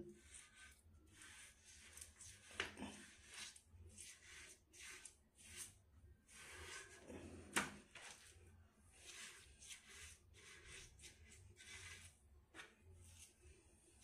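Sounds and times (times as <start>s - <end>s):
wet rubbing of grout by hand: 0.2s - 14.0s.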